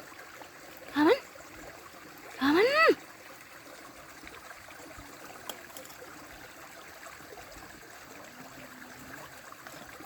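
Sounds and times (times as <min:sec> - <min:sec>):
faint running water: 0:00.0 - 0:10.0.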